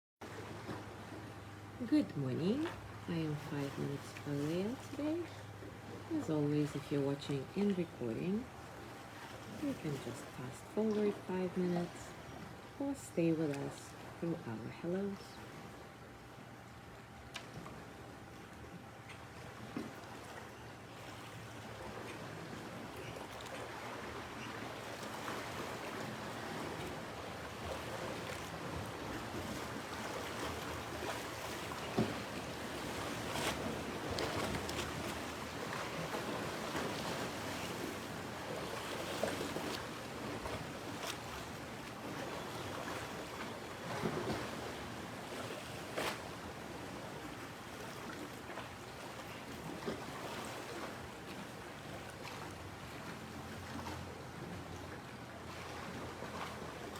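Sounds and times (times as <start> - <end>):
wind: 0.2 - 56.9.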